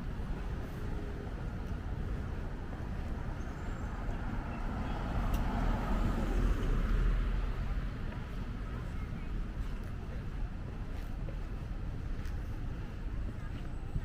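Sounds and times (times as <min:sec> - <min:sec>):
city road traffic: 0:00.0 - 0:14.0.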